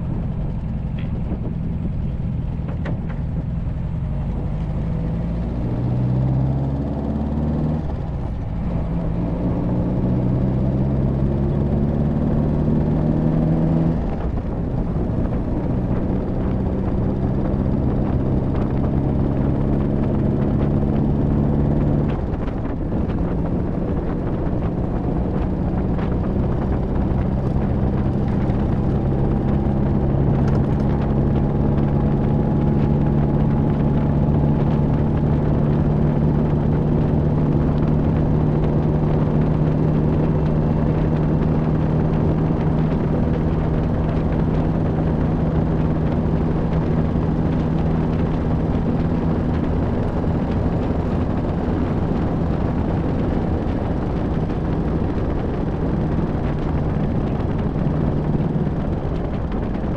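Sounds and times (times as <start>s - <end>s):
car engine cruising: 0.0s - 59.9s
road noise: 0.0s - 59.9s
wind noise: 0.0s - 59.9s.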